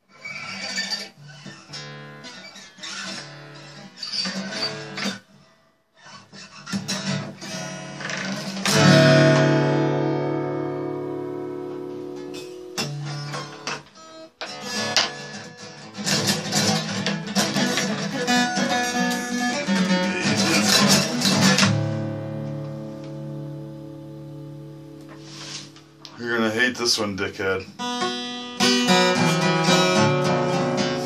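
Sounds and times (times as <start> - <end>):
acoustic guitar strumming: 0.2 - 5.3, 6.0 - 31.0.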